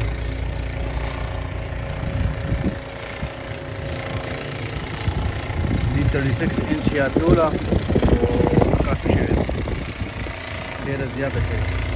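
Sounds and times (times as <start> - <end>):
engine idling: 0.0 - 11.9
wind rumble on microphone: 0.0 - 11.9.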